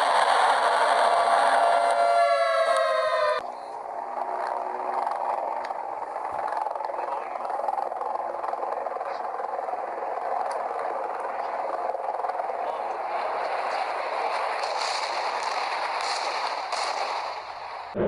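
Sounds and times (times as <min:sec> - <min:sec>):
static hiss with crackles: 0:00.0 - 0:18.0.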